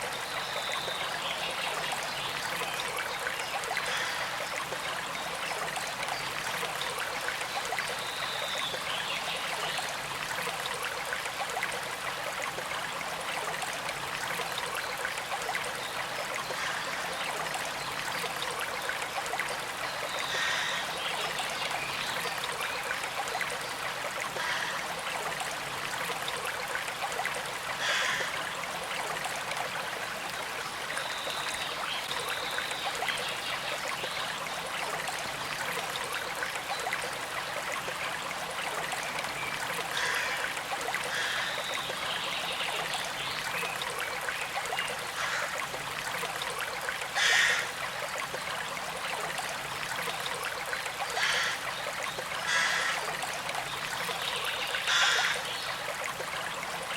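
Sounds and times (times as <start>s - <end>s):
small stream trickling: 0.0s - 56.9s.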